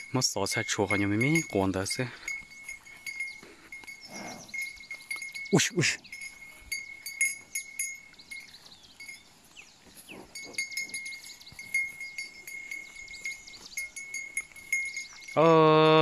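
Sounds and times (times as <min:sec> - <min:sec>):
cattle bells jingling: 0:00.0 - 0:16.0.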